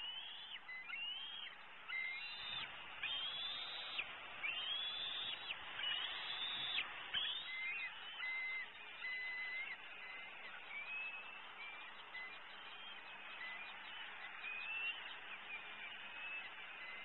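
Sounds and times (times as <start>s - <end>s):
eagle high squealing calls: 0.0s - 17.0s.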